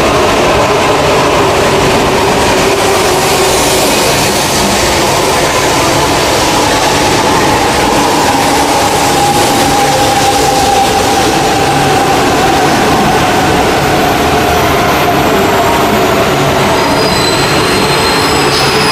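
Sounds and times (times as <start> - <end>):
train running with whine: 0.0 - 18.9.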